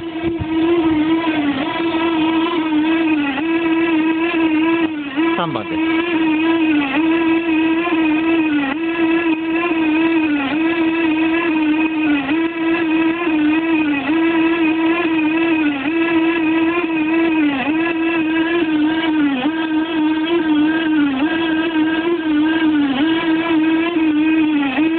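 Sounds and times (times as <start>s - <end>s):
industrial machine whining: 0.0s - 24.9s.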